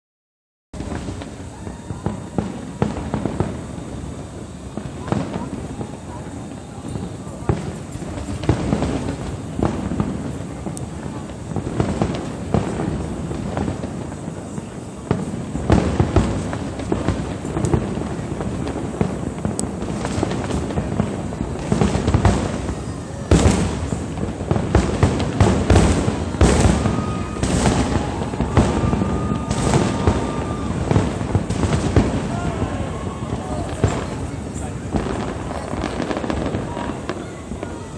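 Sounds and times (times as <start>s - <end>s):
fireworks bangs and crackles: 0.8s - 37.9s.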